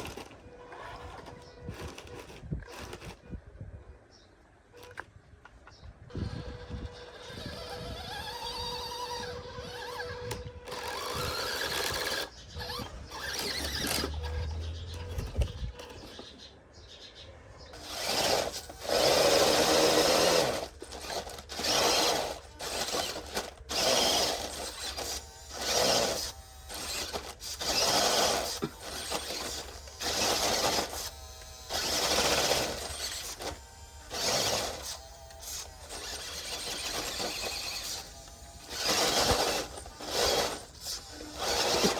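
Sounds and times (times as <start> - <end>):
electric motor whining: 6.1 - 16.1, 17.8 - 41.9.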